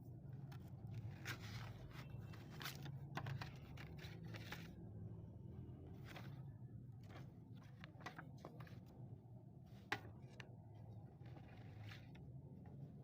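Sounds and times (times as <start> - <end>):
handling noises scraping and clicking: 0.2 - 4.9, 5.9 - 9.0, 9.7 - 13.0.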